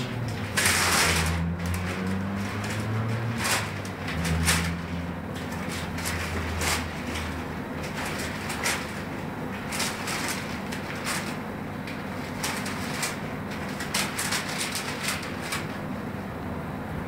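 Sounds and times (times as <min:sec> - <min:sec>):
newspaper rustling and crackling: 0:00.0 - 0:16.1.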